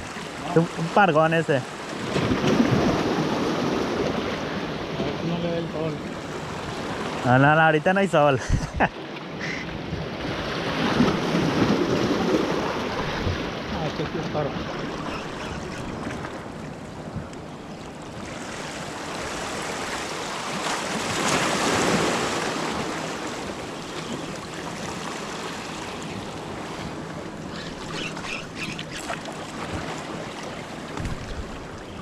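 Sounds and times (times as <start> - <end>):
waves lapping against rocks: 0.0 - 5.6, 8.9 - 32.0.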